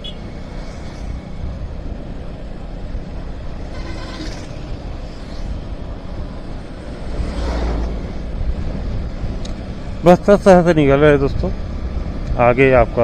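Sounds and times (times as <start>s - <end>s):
motorcycle running: 0.0s - 13.0s
wind and road noise: 0.0s - 13.0s.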